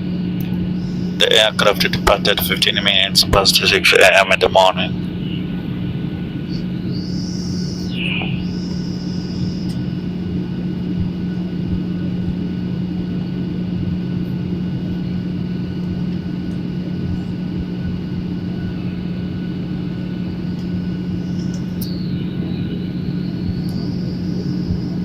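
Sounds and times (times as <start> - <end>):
airliner cabin engine drone: 0.0 - 25.0
constant low hum tone: 0.0 - 25.0.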